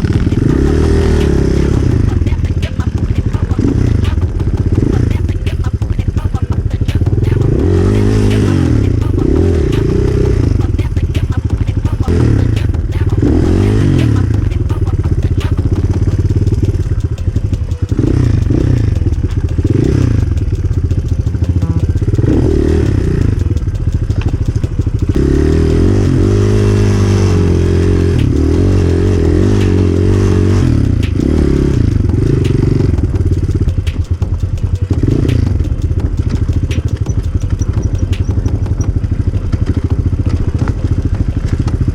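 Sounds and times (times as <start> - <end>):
bike knocks and rattles: 0.0 - 41.9
motorcycle engine revving: 0.0 - 41.9.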